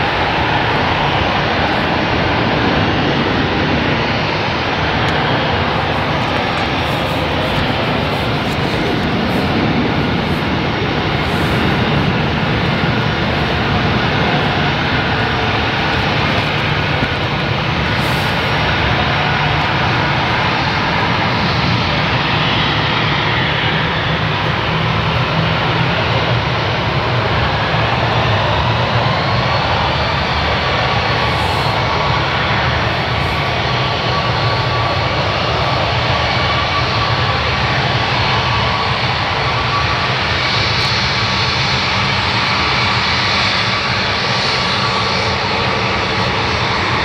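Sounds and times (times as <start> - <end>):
jet engine whine: 0.0 - 47.0
jet engines rumbling: 0.0 - 47.0.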